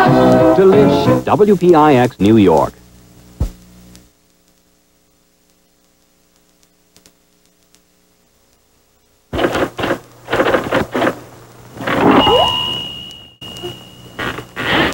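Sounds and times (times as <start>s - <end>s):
faint mains hum: 0.0s - 14.9s.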